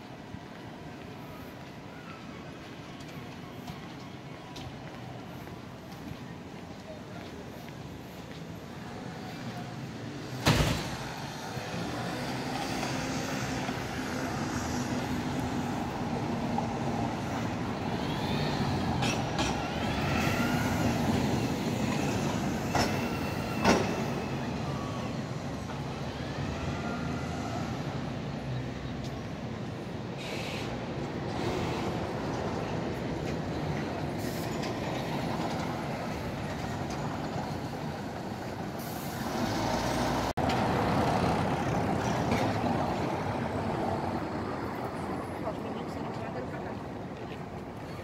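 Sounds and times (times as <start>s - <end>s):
city street traffic: 0.0s - 48.0s
bus driving past: 0.1s - 48.0s.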